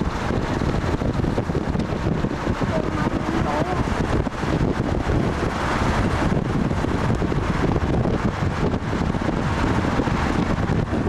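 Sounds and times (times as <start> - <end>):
vehicle rumble: 0.0 - 11.0
wind buffeting microphone: 0.0 - 11.0.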